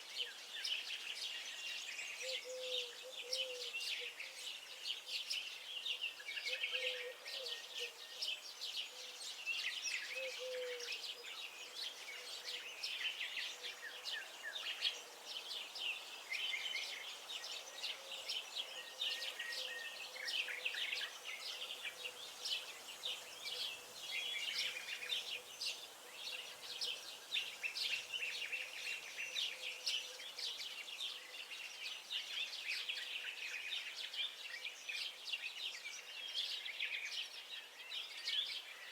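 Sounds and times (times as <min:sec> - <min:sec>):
faint background noise: 0:00.0 - 0:38.9
songbirds chirping and singing: 0:00.0 - 0:38.9.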